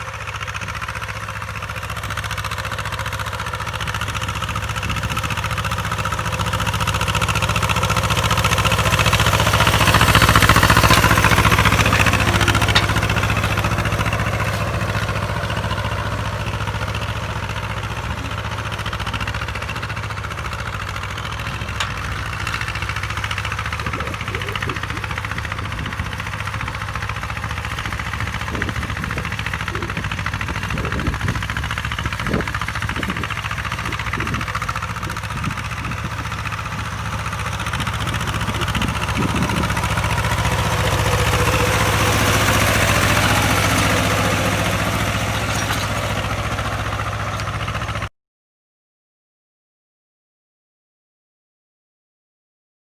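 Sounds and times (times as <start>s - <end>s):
tractor diesel engine under load: 0.0s - 48.1s.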